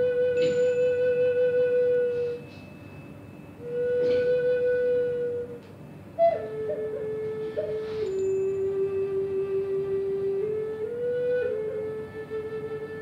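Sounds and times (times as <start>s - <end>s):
flute playing long notes: 0.0s - 2.6s, 3.6s - 13.0s.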